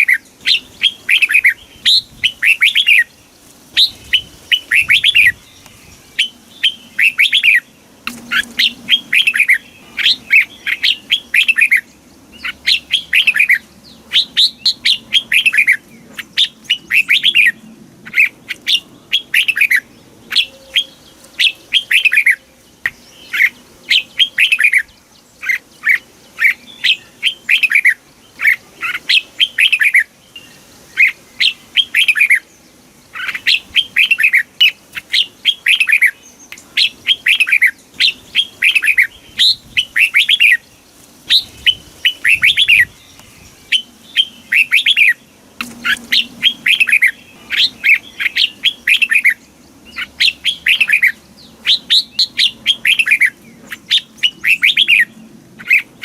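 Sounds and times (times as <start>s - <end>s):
bird whistling song: 0.0s - 3.2s, 3.8s - 32.5s, 33.1s - 40.7s, 41.3s - 56.0s.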